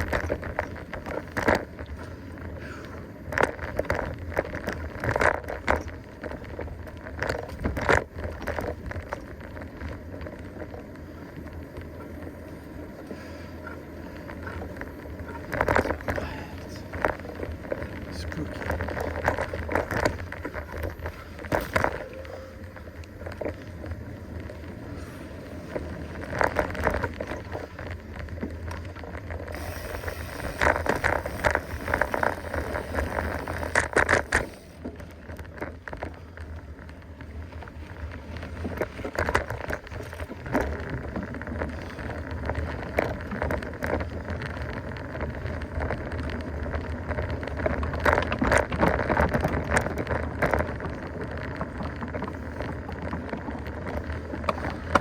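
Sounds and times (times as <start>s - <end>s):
bike rattling over bumps: 0.0s - 55.0s
bike tyres rolling on dirt: 0.0s - 55.0s.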